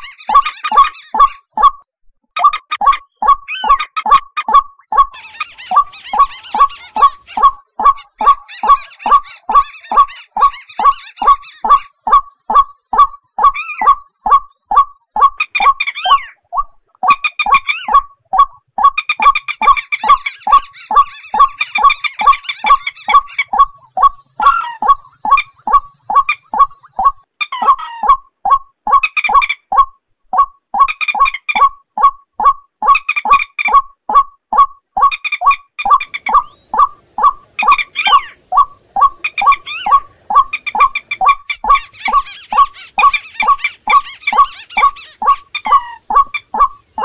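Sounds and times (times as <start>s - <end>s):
chattering bird calls: 0.0s - 47.0s
short croaking bird notes: 0.0s - 47.0s.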